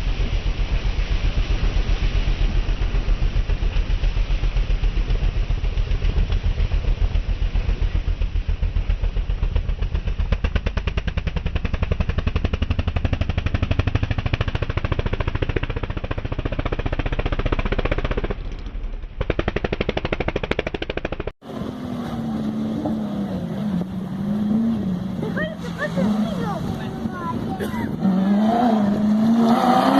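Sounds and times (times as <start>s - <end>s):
vehicle engine running at low revs: 0.0s - 29.9s.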